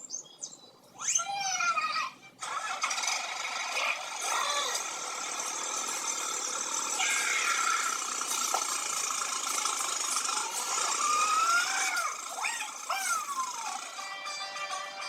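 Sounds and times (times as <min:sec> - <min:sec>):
small motor whirring: 0:02.4 - 0:15.0.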